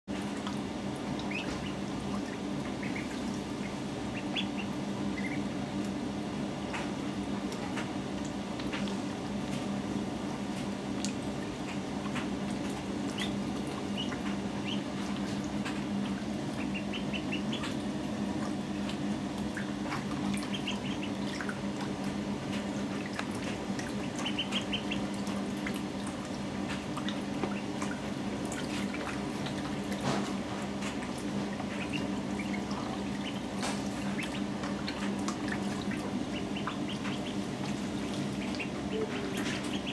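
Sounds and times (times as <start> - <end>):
steady low hum: 0.1 - 39.9
ducklings peeping: 0.9 - 6.1, 10.9 - 30.0, 30.9 - 39.9.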